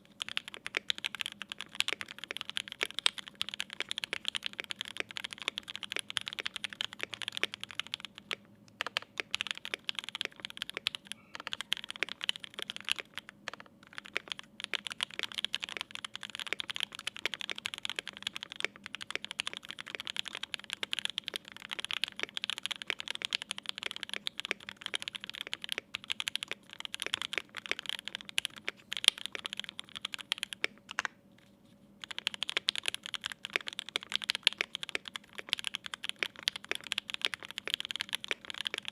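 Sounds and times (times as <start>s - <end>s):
mechanical keyboard typing: 0.0s - 31.1s, 32.0s - 38.9s.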